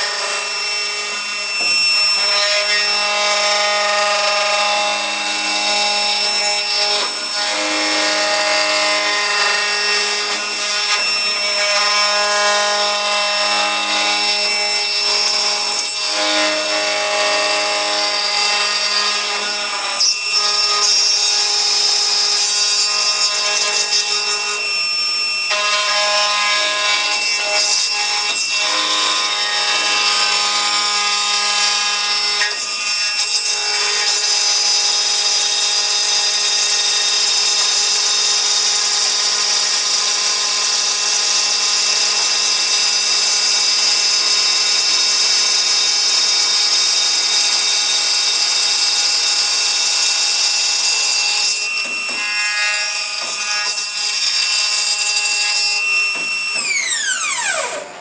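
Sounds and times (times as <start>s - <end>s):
router milling aluminium: 0.0s - 58.0s.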